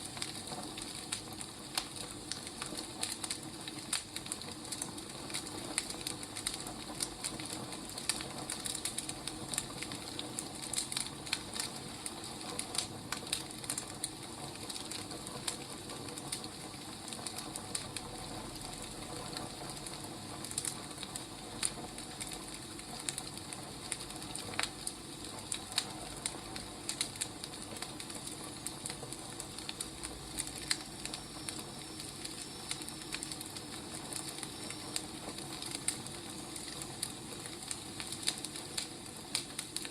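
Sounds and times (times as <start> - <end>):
soft fire hiss: 0.0 - 39.9
wood fire crackling: 0.0 - 39.9.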